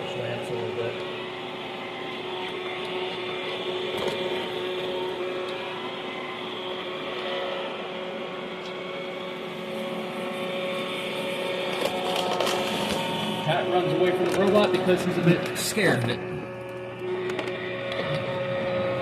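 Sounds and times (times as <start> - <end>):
robot vacuum whirring: 0.0 - 19.0.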